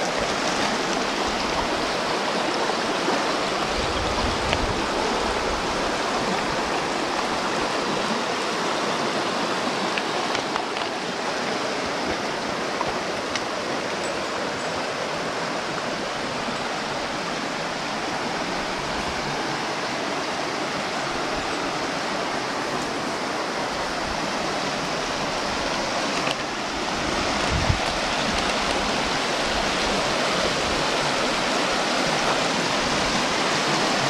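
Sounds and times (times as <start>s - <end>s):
creek rushing over rocks: 0.0s - 34.0s.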